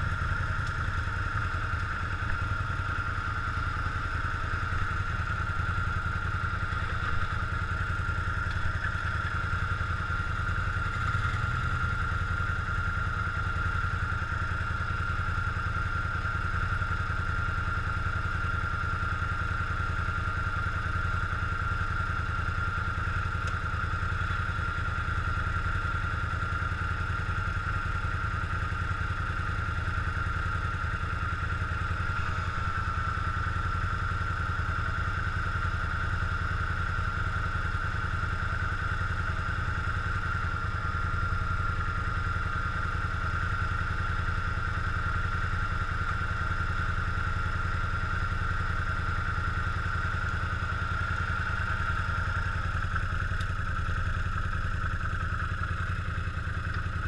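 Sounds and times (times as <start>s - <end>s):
quad bike engine idling: 0.0s - 57.0s.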